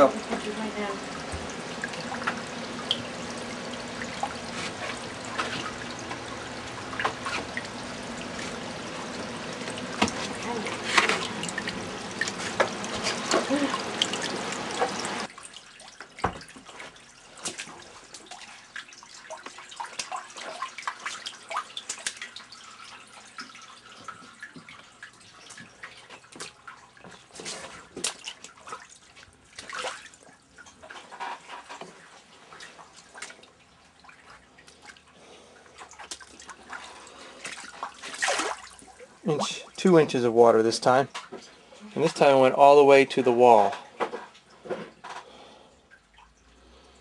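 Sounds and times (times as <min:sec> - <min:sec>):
water dripping into standing water: 0:00.0 - 0:31.1, 0:31.7 - 0:44.6, 0:45.3 - 0:47.0.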